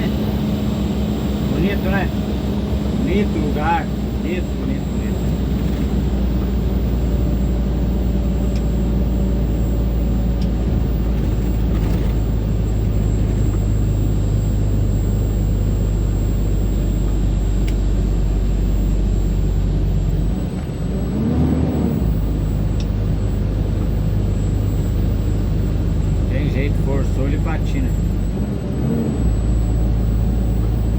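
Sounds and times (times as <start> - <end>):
truck diesel engine droning: 0.0 - 30.9.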